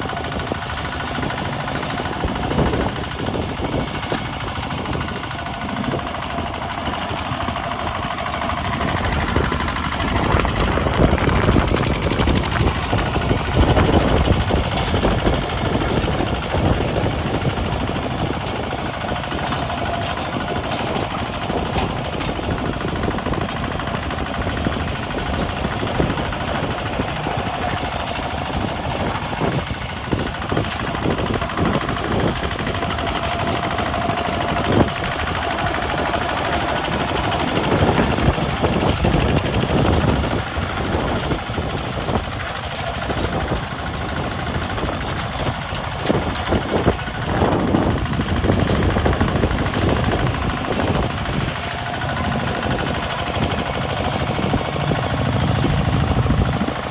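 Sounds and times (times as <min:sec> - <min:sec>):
diesel tractor engine chugging: 0:00.0 - 0:56.9.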